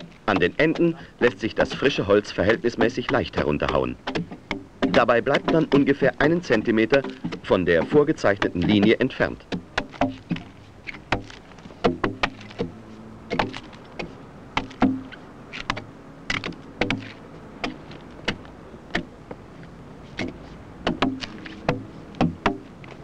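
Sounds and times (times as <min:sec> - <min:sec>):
axe chopping into log: 0:01.7 - 0:19.1, 0:20.2 - 0:22.7.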